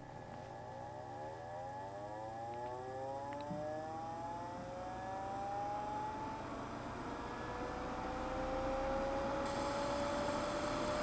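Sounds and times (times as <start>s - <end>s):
disc player whine rising: 0.0s - 11.0s.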